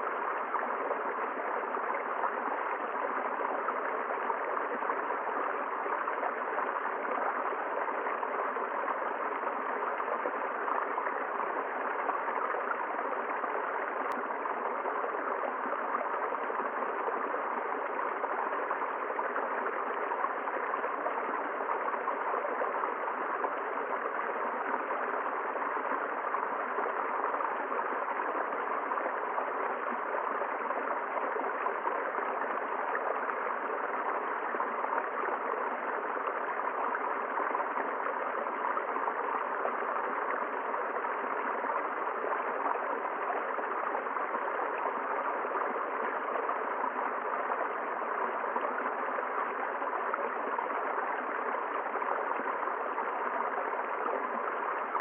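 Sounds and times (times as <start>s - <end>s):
river water flowing over stones: 0.0s - 55.0s.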